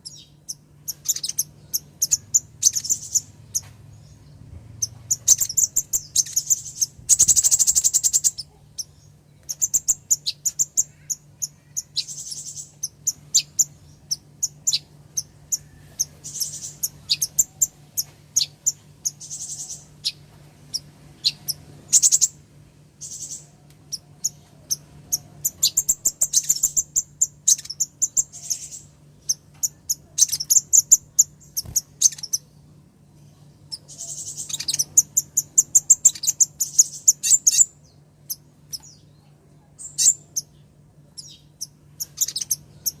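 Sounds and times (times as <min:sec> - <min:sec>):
bird calling high chips: 0:00.0 - 0:03.8, 0:04.8 - 0:22.4, 0:23.0 - 0:32.5, 0:33.7 - 0:39.0, 0:41.2 - 0:43.0
faint low hum: 0:00.0 - 0:43.0.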